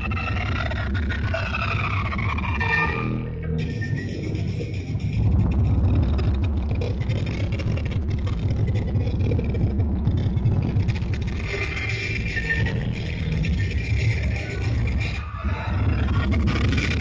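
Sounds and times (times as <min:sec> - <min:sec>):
deep steady rumble with crackles: 0:00.0 - 0:17.0.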